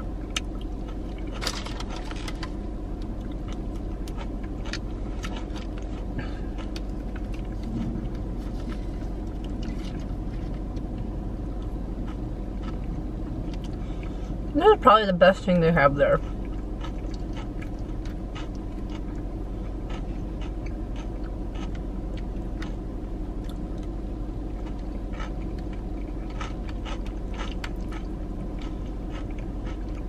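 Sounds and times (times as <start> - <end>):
car running hum: 0.0 - 30.0.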